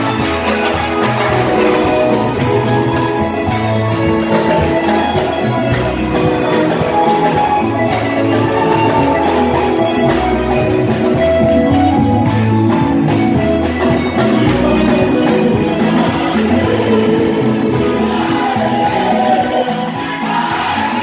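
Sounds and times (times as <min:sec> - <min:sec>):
bass guitar: 0:00.0 - 0:21.0
congas: 0:00.0 - 0:21.0
drum kit: 0:00.0 - 0:21.0
electric guitar: 0:00.0 - 0:21.0
keyboard: 0:00.0 - 0:21.0.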